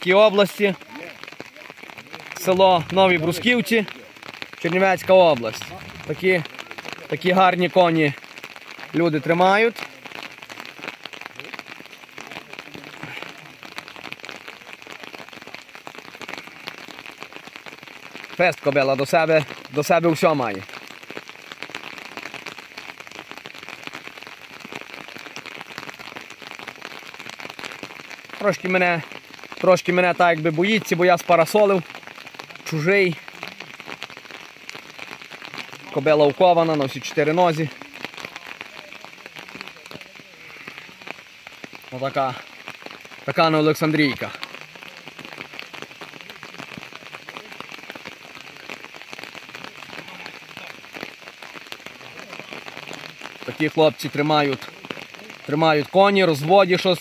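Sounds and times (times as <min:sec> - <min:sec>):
rain on an umbrella: 0:00.0 - 0:57.0.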